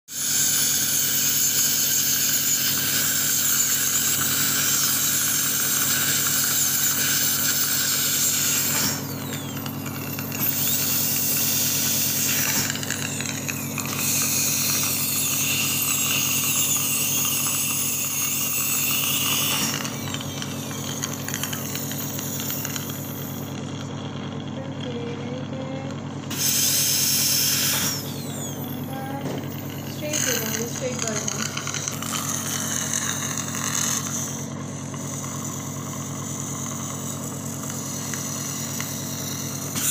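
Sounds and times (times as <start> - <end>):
dental drill whining: 0.1 - 39.9
steady low hum: 4.1 - 39.9.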